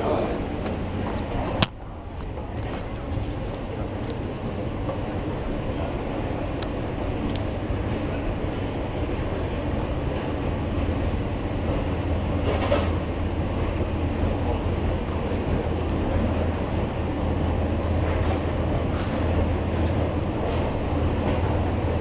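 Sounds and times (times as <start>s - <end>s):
escalator humming and rumbling: 0.0s - 22.0s.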